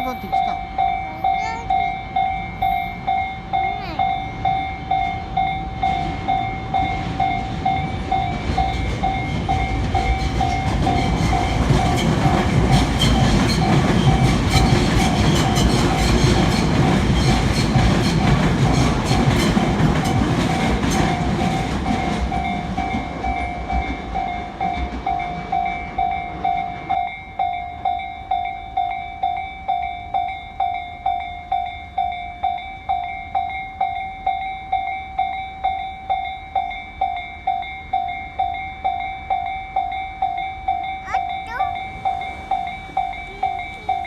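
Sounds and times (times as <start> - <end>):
railroad crossing bell ringing: 0.0 - 44.0
train passing: 0.0 - 44.0.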